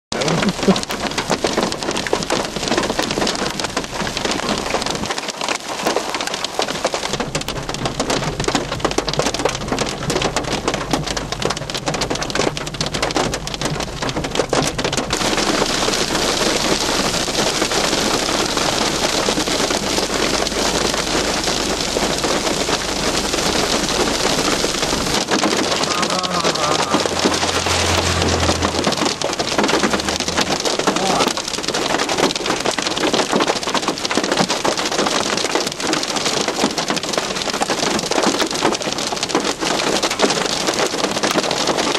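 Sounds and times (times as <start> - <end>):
hail pelting a vehicle roof: 0.1 - 41.9.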